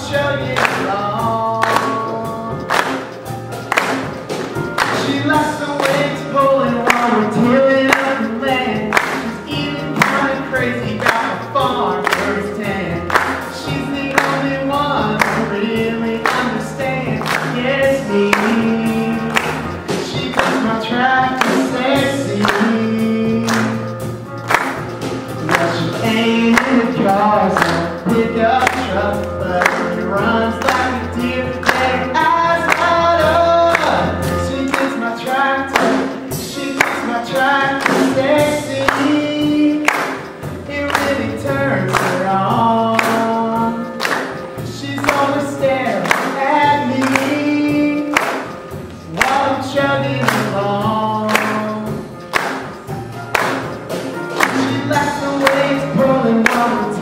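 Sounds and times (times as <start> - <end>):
man singing country song: 0.0 - 2.9, 4.8 - 24.0, 25.4 - 52.2, 54.4 - 57.0
instrumental accompaniment with beat: 0.0 - 57.0.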